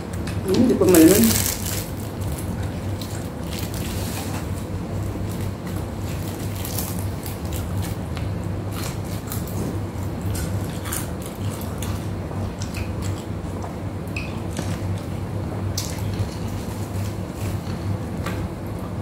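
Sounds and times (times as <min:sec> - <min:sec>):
steady low hum: 0:00.0 - 0:19.0
crunching and chewing fried fish: 0:01.1 - 0:18.9.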